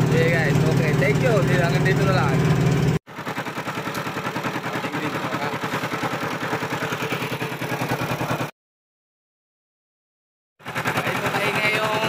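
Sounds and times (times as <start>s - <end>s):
road roller engine clattering: 0.0s - 8.5s, 10.6s - 12.0s.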